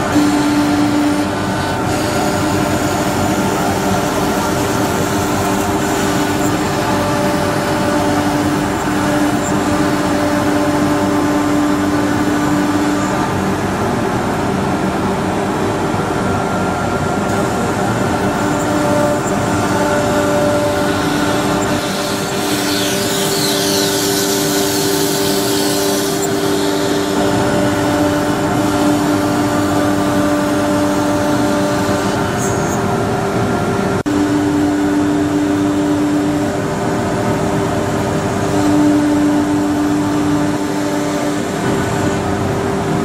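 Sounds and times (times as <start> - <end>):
humming tone: 0.0 - 33.0, 34.0 - 42.7
router machine cutting board: 0.0 - 43.0.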